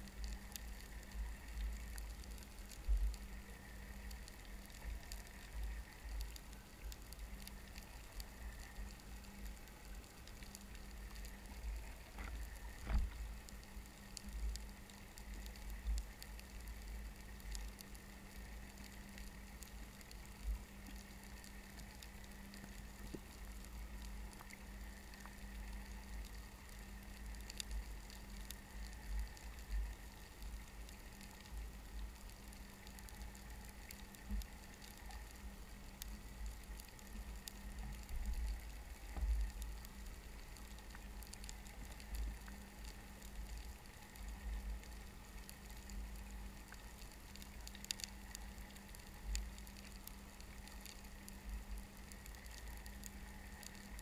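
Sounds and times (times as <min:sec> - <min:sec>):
faint clicks and crackles: 0:00.0 - 0:54.0
underwater rumble and hum: 0:00.0 - 0:54.0.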